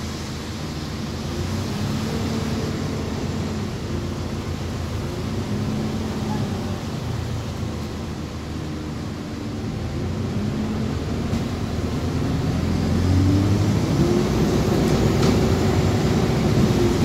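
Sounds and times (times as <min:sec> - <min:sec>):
bus running rumble: 0:00.0 - 0:17.0
road noise: 0:00.0 - 0:17.0.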